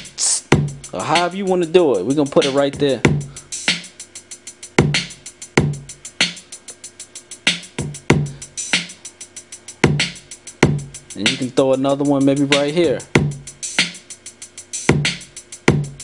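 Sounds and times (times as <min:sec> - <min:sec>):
closed hi-hats ticking: 0:00.0 - 0:16.0
open hi-hat: 0:00.0 - 0:16.0.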